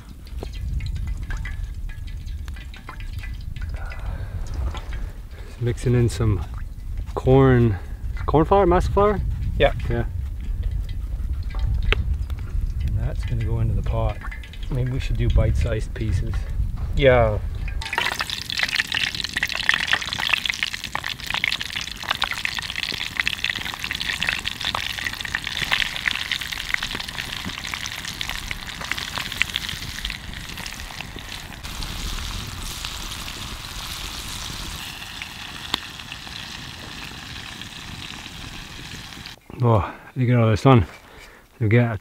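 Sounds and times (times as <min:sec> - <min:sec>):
fish deep frying sizzle and pops: 0:00.0 - 0:05.4, 0:09.3 - 0:16.7, 0:17.6 - 0:39.4.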